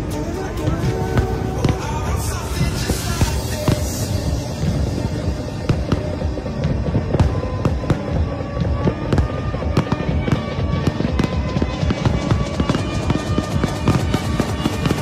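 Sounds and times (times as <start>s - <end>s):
electronic dance music: 0.0s - 15.0s
fireworks bursting and crackling: 0.0s - 15.0s.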